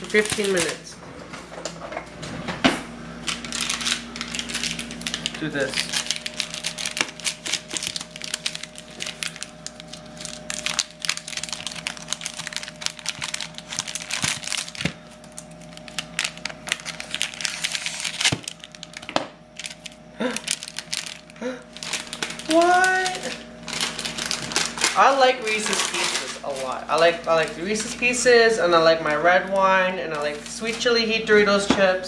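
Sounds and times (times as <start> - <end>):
scissors cutting plastic wrapper: 0.0 - 0.8, 3.2 - 28.1
plastic wrapper crinkling: 0.0 - 0.9, 3.2 - 31.4.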